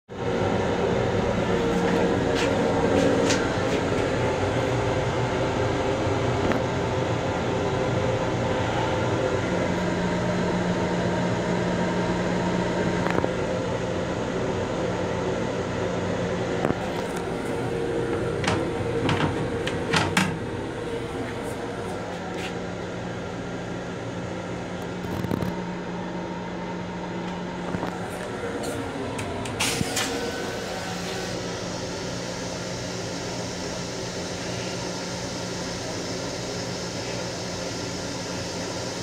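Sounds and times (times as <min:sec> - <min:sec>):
mechanical hum: 0:00.1 - 0:39.0.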